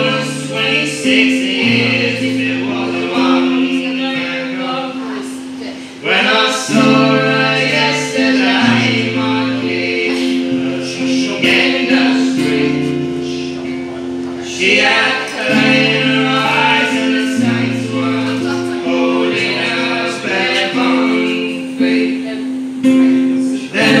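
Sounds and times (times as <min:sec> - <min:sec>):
accordion chords: 0:00.0 - 0:24.0
person singing: 0:00.0 - 0:24.0
strummed acoustic guitar: 0:00.0 - 0:24.0.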